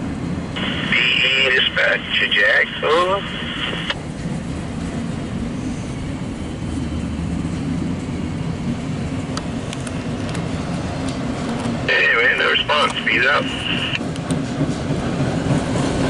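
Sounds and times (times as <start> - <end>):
muffled freight train rumble: 0.0 - 16.0.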